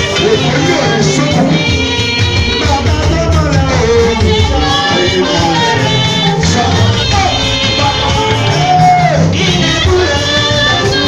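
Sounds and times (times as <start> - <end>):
live band music: 0.0 - 11.0
man singing into microphone: 0.0 - 11.0.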